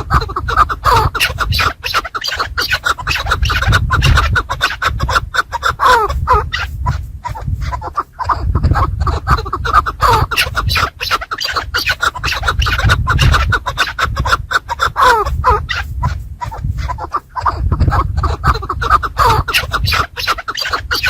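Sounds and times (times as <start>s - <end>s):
partridge clucking calls: 0.0s - 21.0s
scratching and rustling: 0.0s - 21.0s.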